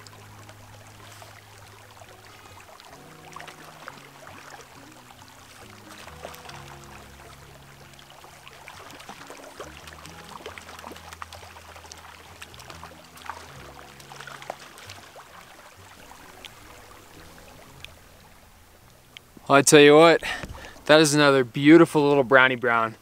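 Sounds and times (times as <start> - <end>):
wading splashes: 0.0 - 22.1
creek water trickling: 0.0 - 23.0
low background music: 0.0 - 23.0.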